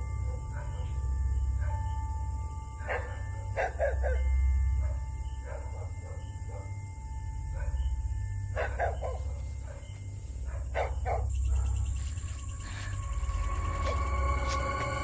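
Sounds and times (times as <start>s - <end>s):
high sustained tones: 0.0s - 10.5s, 11.2s - 15.0s
low steady drone: 0.0s - 15.0s
dog barking: 0.1s - 1.0s, 1.6s - 2.0s, 2.8s - 6.8s, 7.5s - 15.0s.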